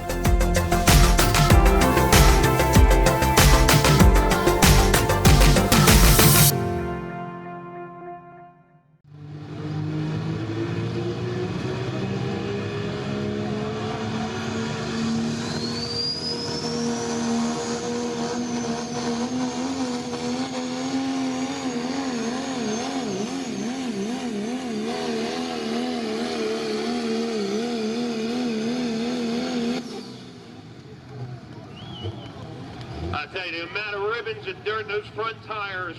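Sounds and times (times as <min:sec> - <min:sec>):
diesel engine at full throttle: 0:00.0 - 0:06.6, 0:09.1 - 0:33.6
high turbo whine: 0:00.0 - 0:07.5, 0:09.1 - 0:31.9.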